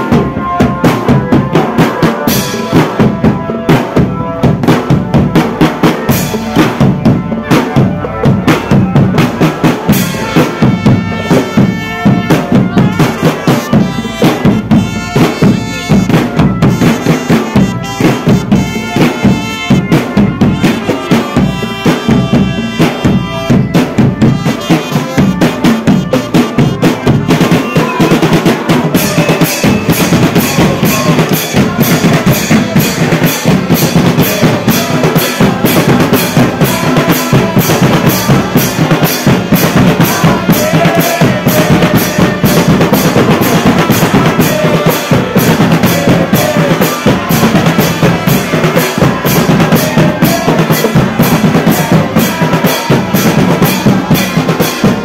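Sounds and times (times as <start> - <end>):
bass drums: 0.0 - 55.0
snare drums: 0.0 - 55.0.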